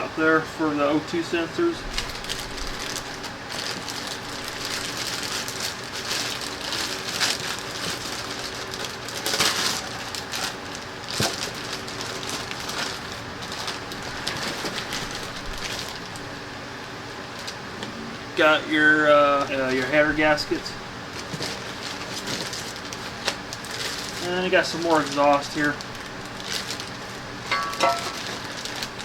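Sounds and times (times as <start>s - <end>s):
packing material rustling: 1.8s - 16.4s, 19.3s - 29.0s.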